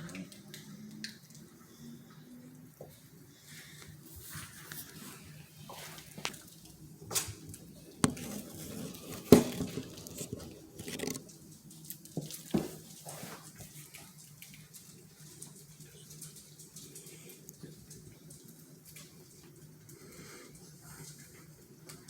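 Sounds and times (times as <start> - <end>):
soft rustling: 2.8 - 22.0.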